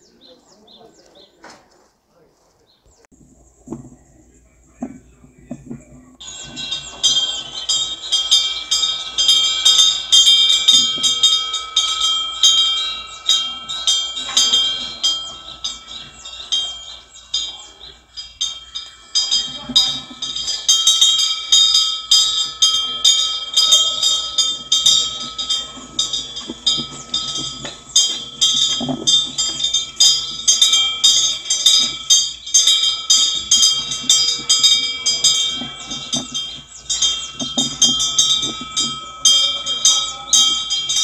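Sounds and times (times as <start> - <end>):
wind bell ringing: 4.7 - 41.0.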